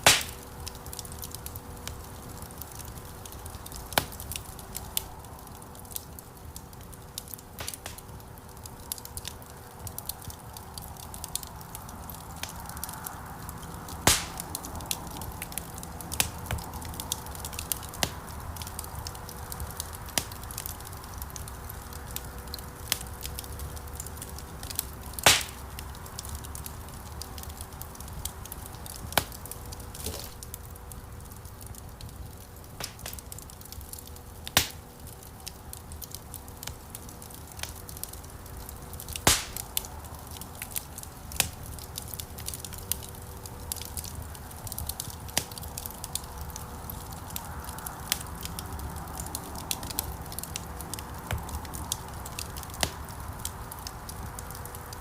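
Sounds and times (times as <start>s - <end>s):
burning logs popping: 0.0s - 55.0s
fire crackling: 0.0s - 55.0s
fire flames rumbling: 0.0s - 55.0s.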